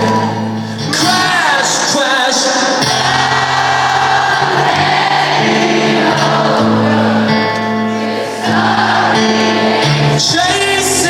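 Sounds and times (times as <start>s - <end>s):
live acoustic rock music: 0.0s - 11.0s
many voices singing together: 1.6s - 11.0s.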